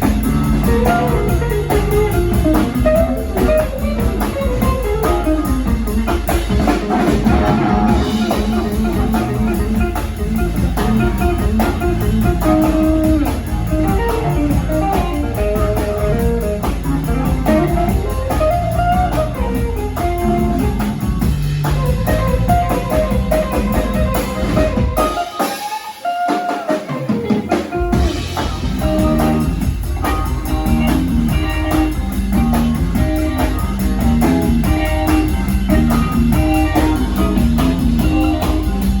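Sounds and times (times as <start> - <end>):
bass guitar: 0.0 - 39.0
drum kit: 0.0 - 39.0
electric guitar: 0.0 - 39.0.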